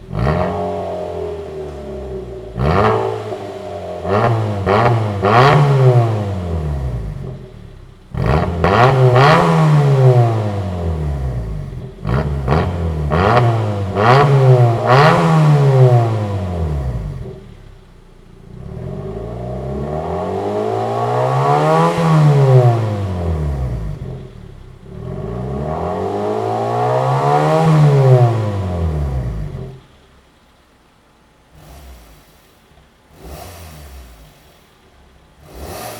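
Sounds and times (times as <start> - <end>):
car engine revving: 0.0 - 35.9
exhaust crackles: 0.0 - 35.9.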